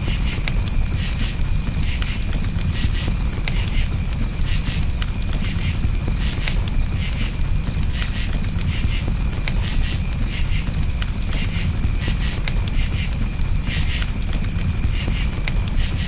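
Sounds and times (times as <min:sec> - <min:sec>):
campfire crackling and popping: 0:00.0 - 0:16.0
crickets chirping: 0:00.0 - 0:16.0.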